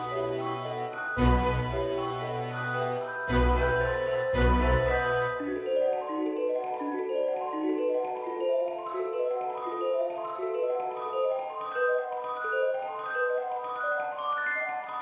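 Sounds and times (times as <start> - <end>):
bouncy mallet percussion melody: 0.0 - 15.0.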